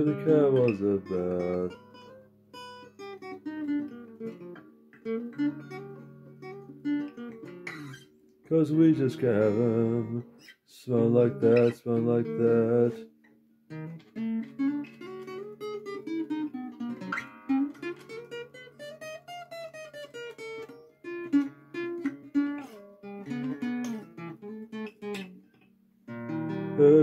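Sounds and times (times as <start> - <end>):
acoustic blues guitar: 0.0 - 27.0.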